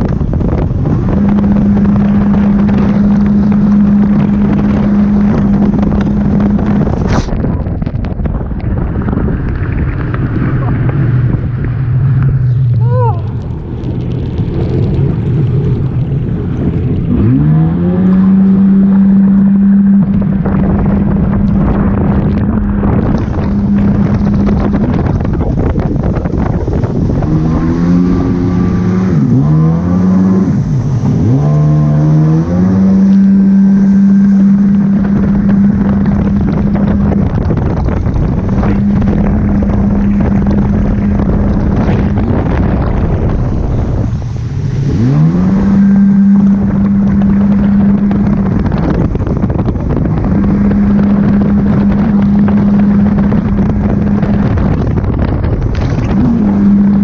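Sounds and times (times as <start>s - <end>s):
jet ski engine running: 0.0s - 57.0s
wind buffeting microphone: 0.0s - 57.0s.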